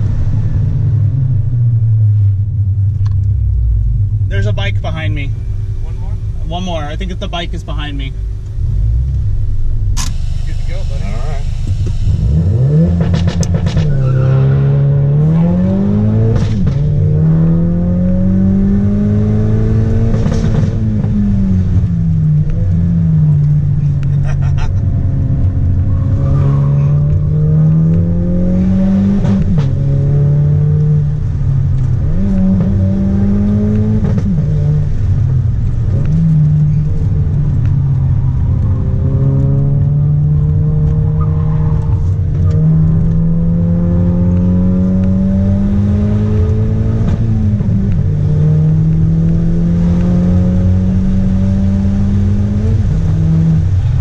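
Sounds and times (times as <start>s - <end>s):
turbocharged car engine accelerating: 0.0s - 54.0s.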